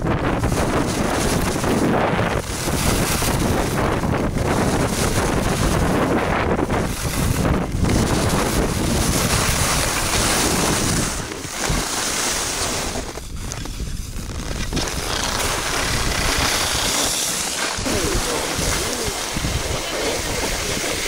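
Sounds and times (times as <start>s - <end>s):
wind on microphone: 0.0s - 21.0s
skis scraping on snow: 0.2s - 21.0s.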